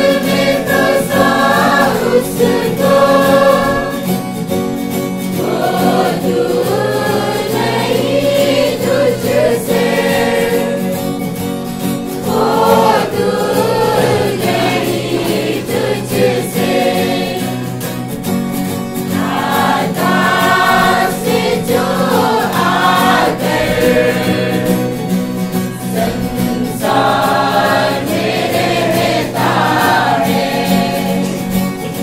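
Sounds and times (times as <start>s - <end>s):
choir of women singing carol: 0.0s - 4.6s, 5.2s - 18.0s, 19.0s - 32.0s.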